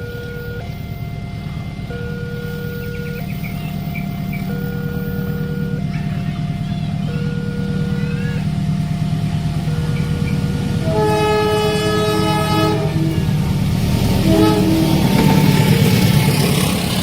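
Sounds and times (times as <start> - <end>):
diesel train rumbling: 0.0 - 17.0
train horn blast: 0.0 - 17.0
two-note alternating tone: 0.0 - 17.0.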